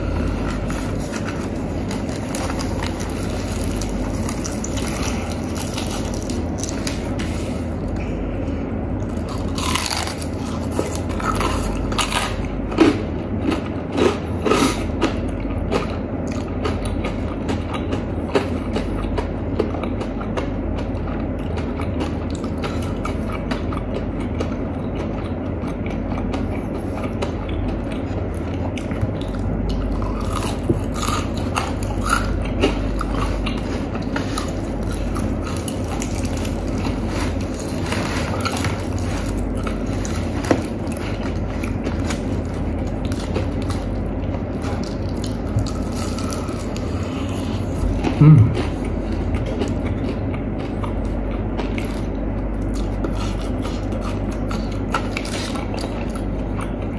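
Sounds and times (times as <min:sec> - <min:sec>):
crunchy chewing of fried chicken: 0:00.0 - 0:56.9
low background hum: 0:00.0 - 0:56.9.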